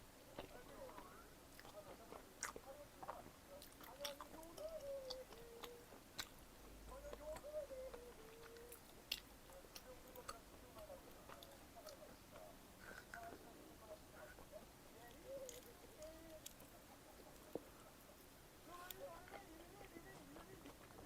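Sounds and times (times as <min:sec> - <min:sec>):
chewing pizza: 0:00.2 - 0:21.0.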